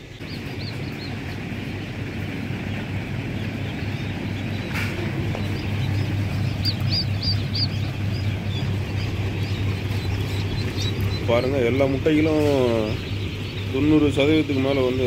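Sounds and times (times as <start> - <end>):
ducklings peeping: 0.0 - 15.0
steady machine hum: 0.0 - 15.0.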